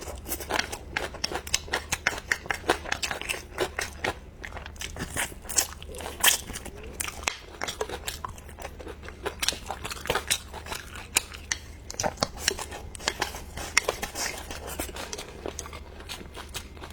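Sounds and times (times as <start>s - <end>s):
person chewing crunchy food: 0.0s - 16.9s
steady low hum: 0.0s - 16.9s.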